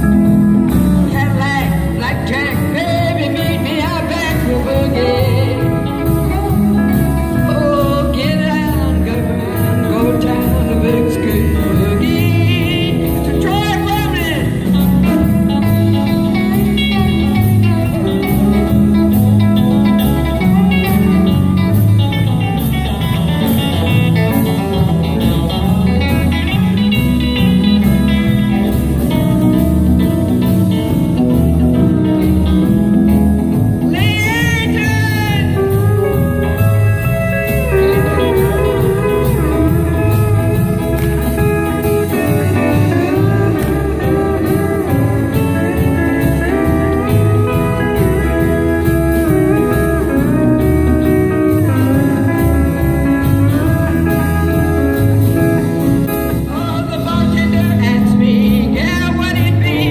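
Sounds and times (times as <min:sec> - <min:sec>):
high sliding guitar notes: 0:00.0 - 0:59.9
live country band playing: 0:00.0 - 0:59.9.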